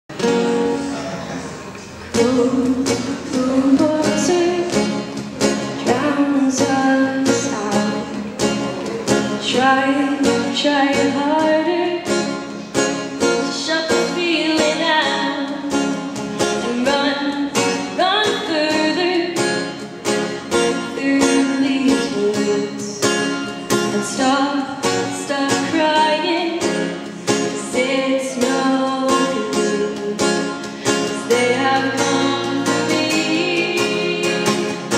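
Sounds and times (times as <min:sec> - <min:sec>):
strummed acoustic guitar: 0:00.1 - 0:34.9
woman singing: 0:02.1 - 0:08.3, 0:09.4 - 0:12.3, 0:13.2 - 0:19.8, 0:20.5 - 0:34.9.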